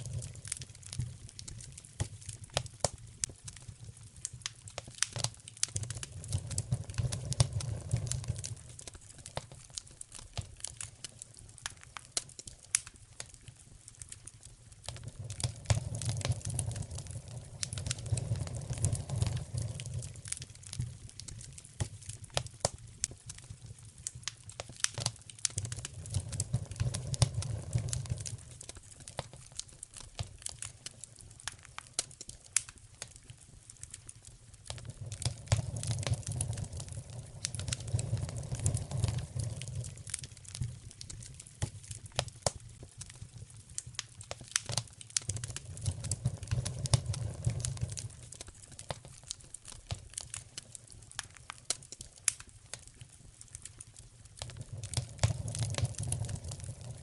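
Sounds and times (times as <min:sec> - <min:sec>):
sharp pops from fire: 0:00.0 - 0:57.0
wood fire crackling: 0:00.0 - 0:57.0.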